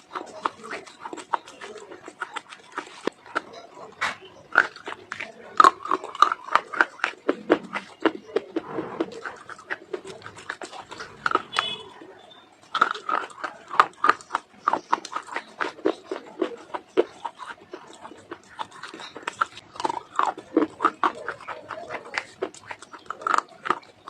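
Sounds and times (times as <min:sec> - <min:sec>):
person chewing dry clay: 0:00.0 - 0:24.0.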